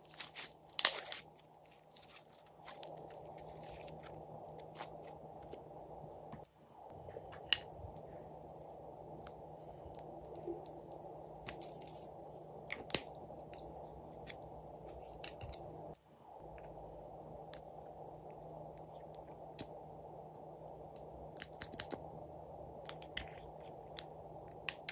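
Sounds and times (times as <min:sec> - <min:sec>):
low background noise: 0:00.0 - 0:24.9.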